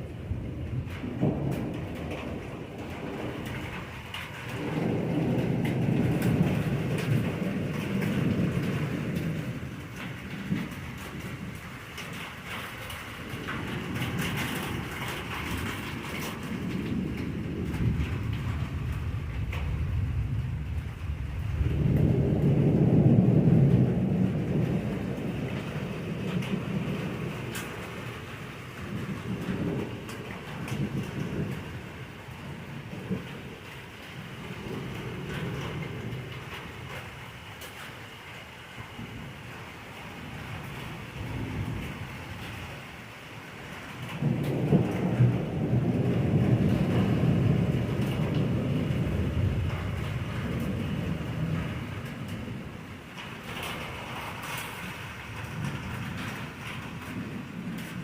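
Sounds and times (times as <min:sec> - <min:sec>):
faint rain hiss: 0:00.0 - 0:58.0
rolling thunder: 0:00.0 - 0:58.0.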